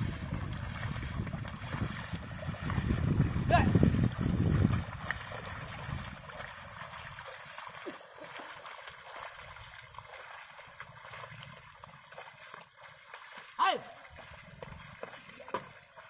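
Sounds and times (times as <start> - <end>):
mud and water sloshing: 0.0 - 16.0.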